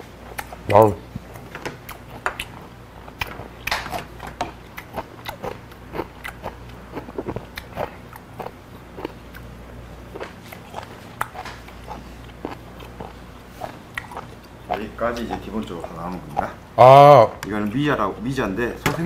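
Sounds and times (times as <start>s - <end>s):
person chewing wetly: 0.3s - 16.6s.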